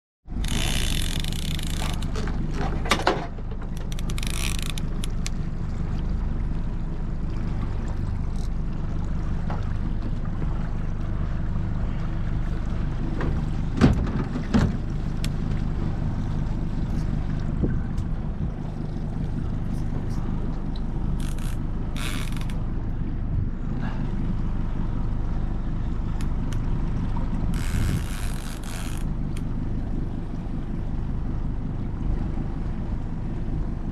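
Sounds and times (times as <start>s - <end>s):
outboard motor running: 0.3s - 33.9s.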